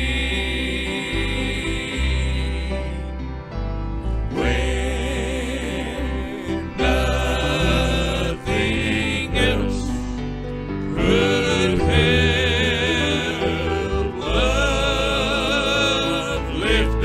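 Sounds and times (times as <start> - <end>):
gospel hymn singing: 0.0 - 17.0
instrumental accompaniment with bass: 0.0 - 17.0.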